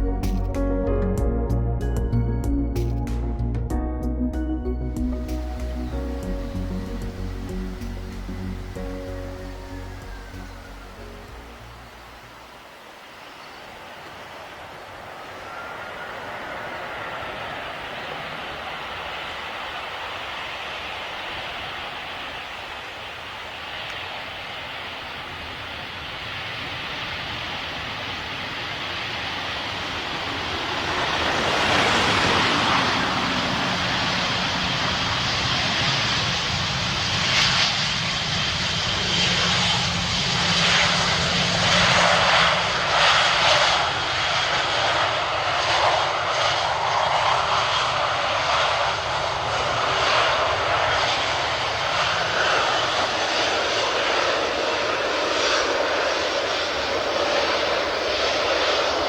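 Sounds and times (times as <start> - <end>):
airliner engines roaring: 0.0 - 59.0.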